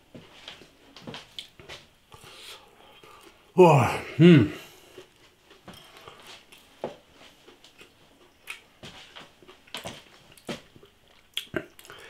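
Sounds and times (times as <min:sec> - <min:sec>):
man chewing with mouth clicks: 0:01.2 - 0:03.4, 0:04.6 - 0:12.0.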